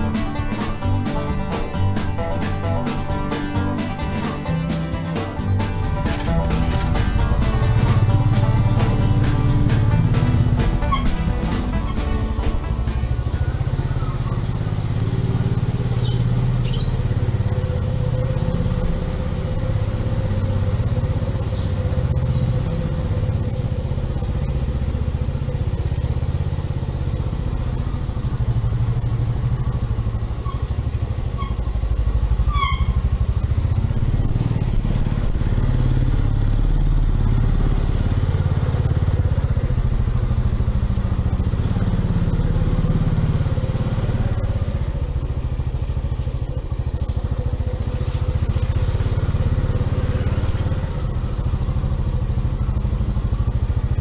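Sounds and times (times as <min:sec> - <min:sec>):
motorcycle engine low rumble: 0:00.0 - 0:54.0.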